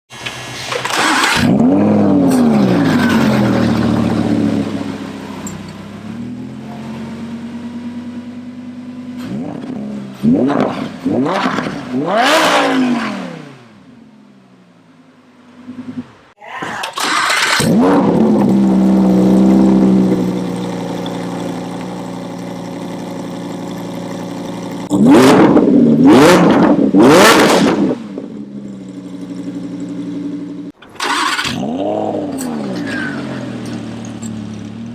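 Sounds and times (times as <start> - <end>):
car engine starting and revving: 0.4 - 14.6, 17.0 - 34.9.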